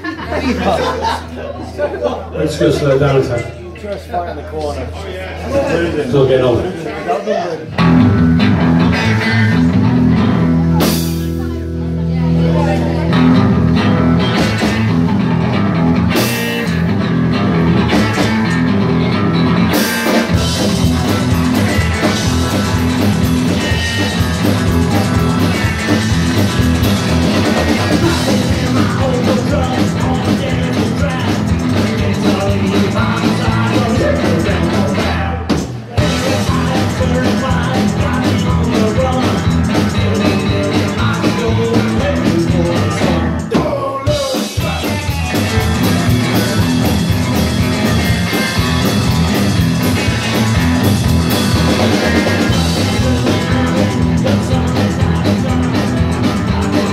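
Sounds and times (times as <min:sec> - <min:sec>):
live rockabilly band playing: 0:00.0 - 0:03.7, 0:07.7 - 0:56.9.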